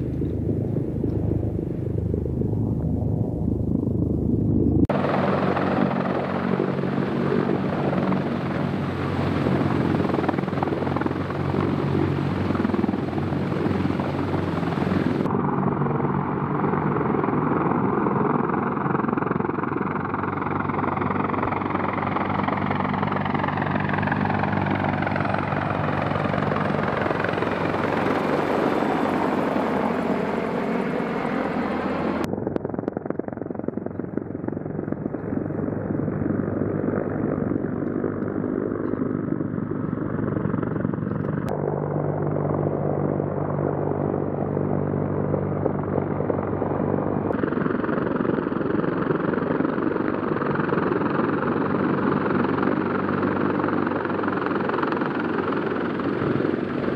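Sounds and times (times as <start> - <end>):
helicopter rotor and engines: 0.0 - 56.9.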